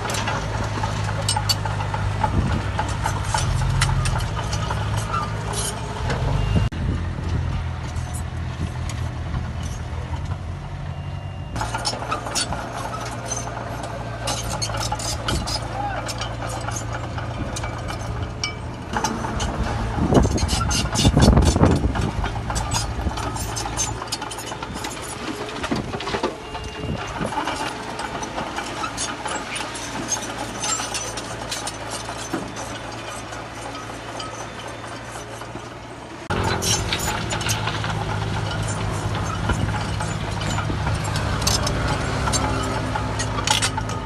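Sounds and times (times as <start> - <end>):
metallic clanks and rattles: 0.0 - 10.7, 11.6 - 44.0
diesel engine running: 0.0 - 44.0.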